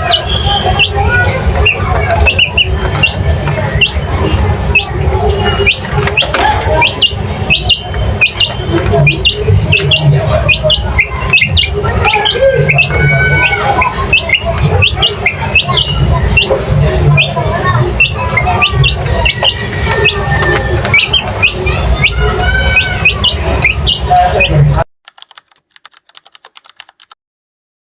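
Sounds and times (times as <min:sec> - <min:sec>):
birds chirping and squawking: 0:00.0 - 0:24.8.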